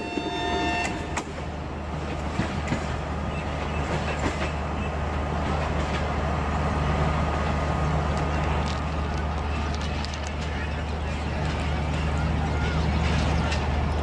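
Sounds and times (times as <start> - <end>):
train coaches rumbling past: 0.0 - 14.0.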